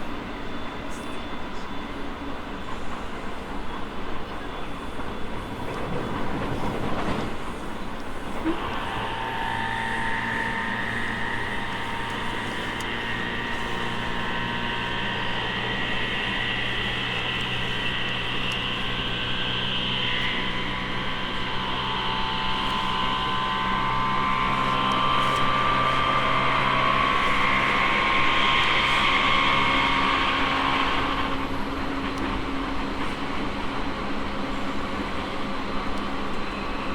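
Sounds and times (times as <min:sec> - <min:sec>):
electric train motor whine: 0:00.0 - 0:36.9.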